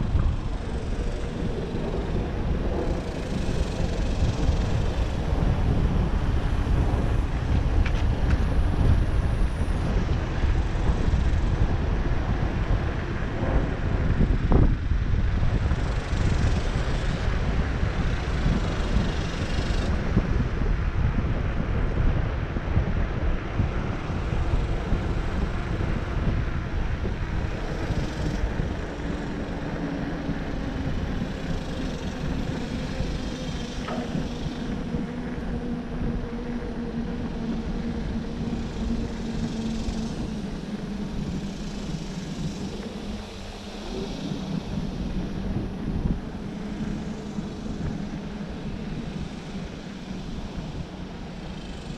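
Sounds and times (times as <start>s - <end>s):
bike tyres rolling on concrete: 0.0s - 51.9s
hum from rolling bike: 0.0s - 51.9s
wind buffeting microphone: 0.0s - 51.9s.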